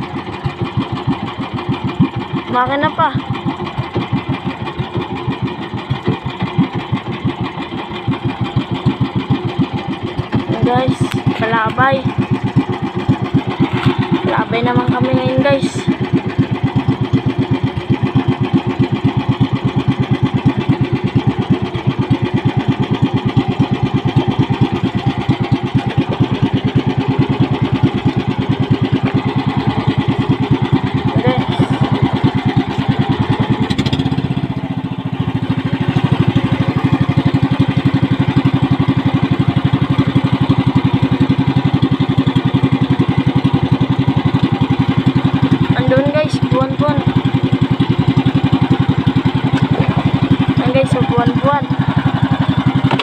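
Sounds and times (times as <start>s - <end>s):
small boat engine running: 0.0s - 53.0s.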